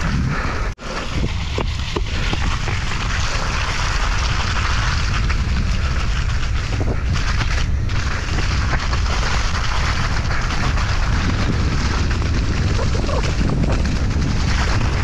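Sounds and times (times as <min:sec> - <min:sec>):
wind rushing over microphone: 0:00.0 - 0:15.0
bike knocking and rattling: 0:01.1 - 0:15.0.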